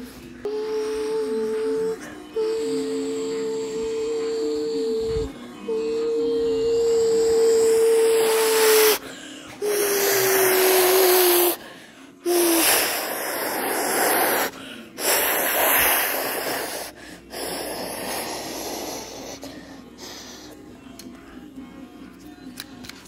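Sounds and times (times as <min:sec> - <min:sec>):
steady hum: 0:00.0 - 0:22.4.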